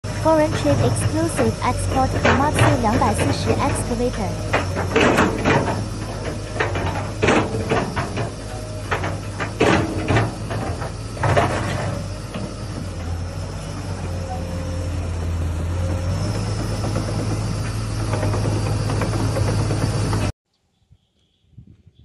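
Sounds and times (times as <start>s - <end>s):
excavator diesel engine running: 0.0s - 20.3s.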